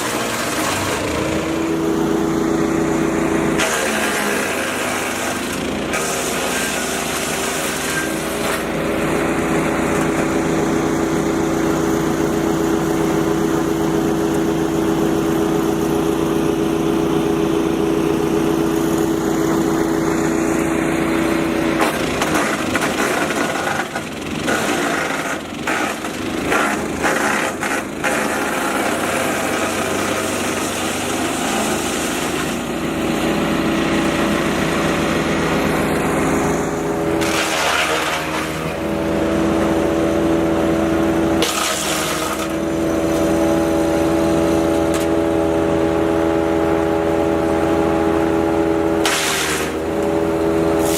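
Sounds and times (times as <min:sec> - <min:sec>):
wood chipper engine running: 0:00.0 - 0:50.9.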